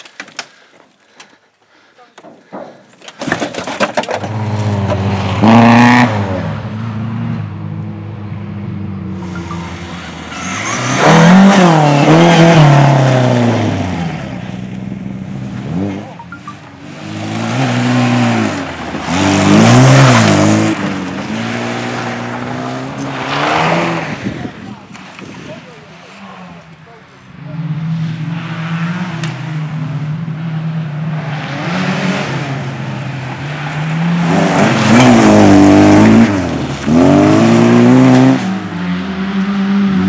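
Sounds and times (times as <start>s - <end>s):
race car engines revving past: 4.2s - 40.0s.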